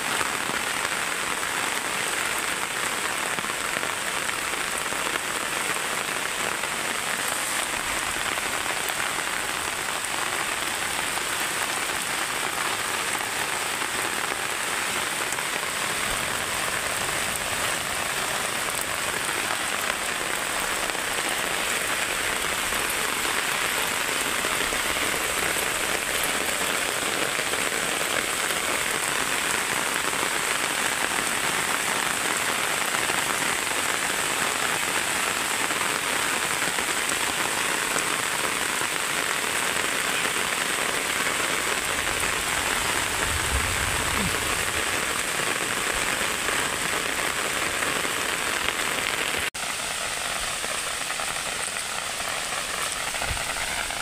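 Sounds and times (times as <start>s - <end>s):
heavy rain on asphalt road: 0.0s - 54.0s.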